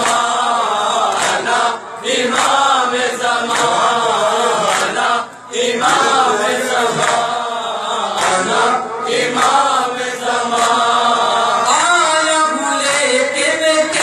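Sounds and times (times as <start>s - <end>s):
man chanting through microphone: 0.0s - 14.0s
men's voices chorus: 0.0s - 14.0s.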